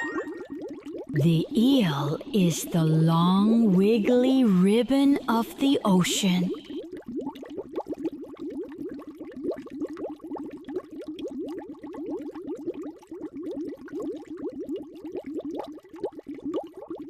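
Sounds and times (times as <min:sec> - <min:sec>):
underwater bubbles: 0:00.0 - 0:17.0.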